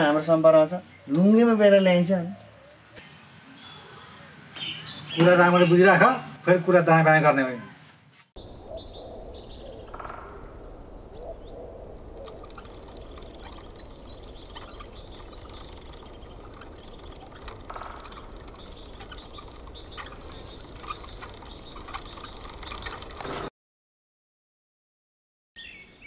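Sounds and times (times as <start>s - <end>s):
small birds chirping: 0.0s - 23.5s, 25.6s - 26.0s.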